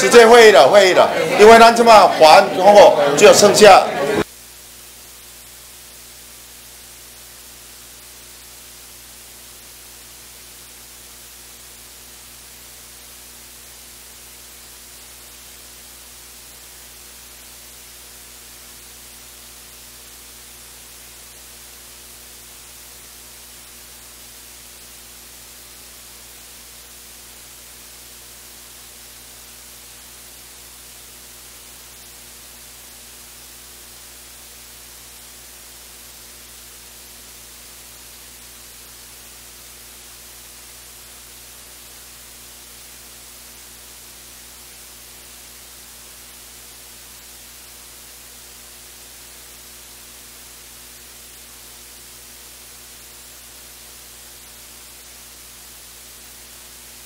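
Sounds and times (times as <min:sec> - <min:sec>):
electronic hiss: 0:00.0 - 0:57.0
faint mains hum: 0:00.0 - 0:57.0.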